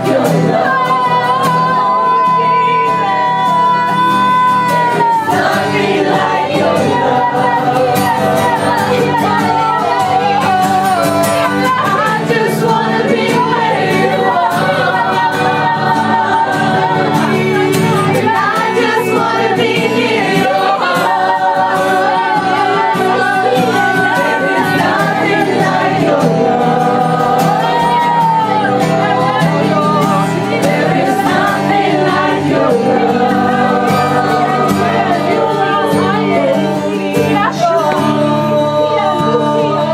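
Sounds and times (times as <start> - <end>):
voices singing worship music: 0.0 - 39.9.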